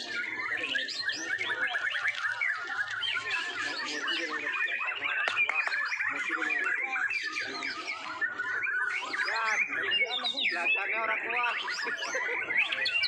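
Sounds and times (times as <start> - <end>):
birds singing whistles and trills: 0.0 - 13.0.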